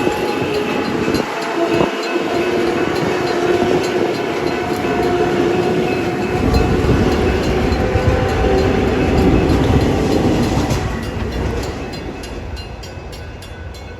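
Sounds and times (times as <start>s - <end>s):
electric train whine: 0.0s - 13.9s
wheel-on-rail rumble: 0.0s - 13.9s.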